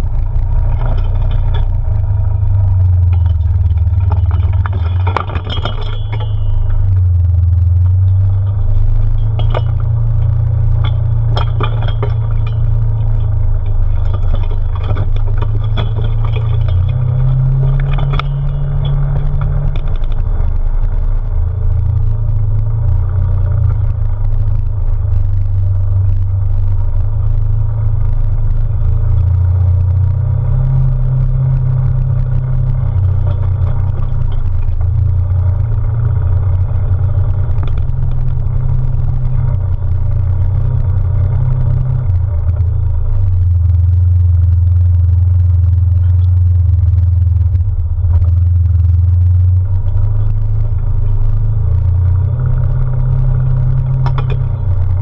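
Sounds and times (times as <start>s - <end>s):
clattering knocks and rattles: 0.0s - 24.8s, 28.9s - 55.0s
off-road vehicle engine droning: 0.0s - 55.0s.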